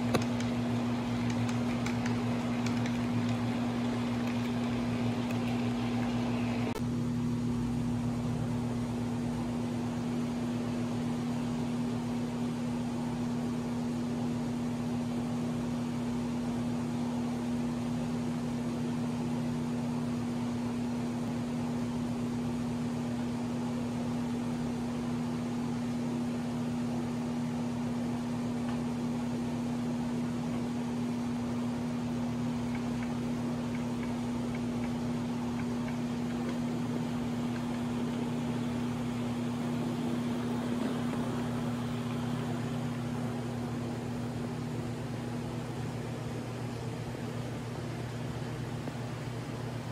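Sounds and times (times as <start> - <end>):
electrical mains hum: 0.0 - 49.9
ventilation hiss: 0.0 - 49.9.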